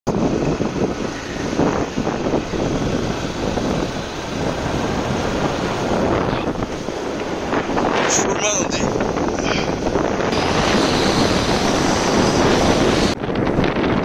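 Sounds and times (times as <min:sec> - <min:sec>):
vehicle road noise: 0:00.1 - 0:14.0
wind rushing over microphone: 0:00.1 - 0:14.0.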